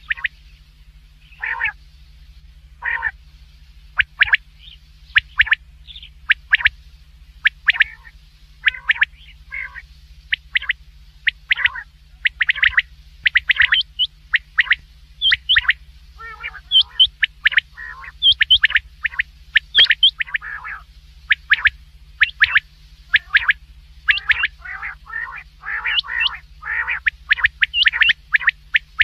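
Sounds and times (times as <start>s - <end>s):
quail calling: 0.0s - 0.4s, 1.2s - 1.8s, 2.8s - 3.2s, 3.9s - 6.8s, 7.4s - 29.0s
steady low hum: 0.0s - 29.0s.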